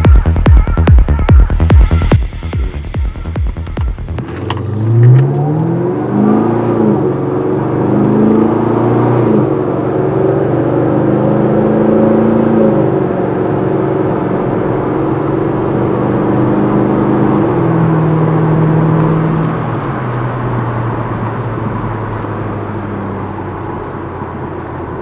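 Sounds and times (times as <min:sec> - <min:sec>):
car engine revving: 0:01.2 - 0:25.0.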